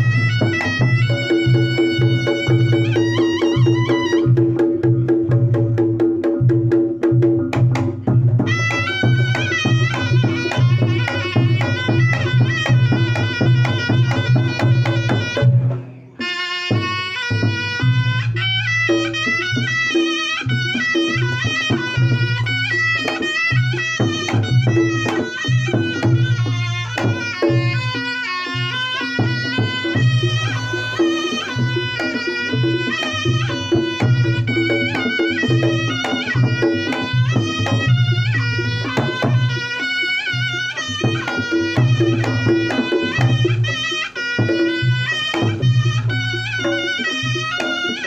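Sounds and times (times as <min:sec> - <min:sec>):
drums: 0:00.0 - 0:48.0
shawm playing ornamented melody: 0:00.0 - 0:48.0.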